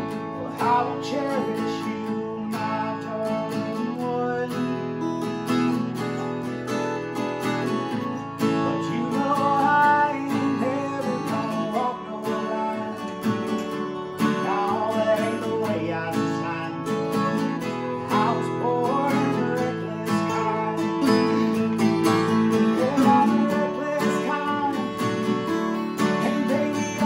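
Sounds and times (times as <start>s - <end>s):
acoustic guitars playing: 0.0s - 27.0s.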